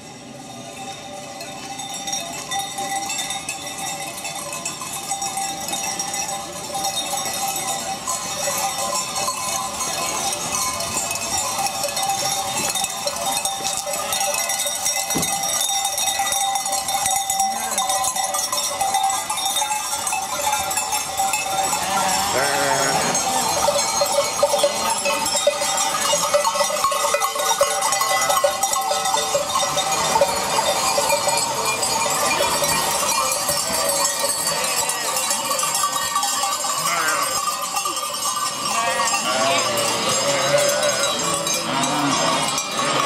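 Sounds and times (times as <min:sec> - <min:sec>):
sheep bells jangling: 0:00.0 - 0:43.0.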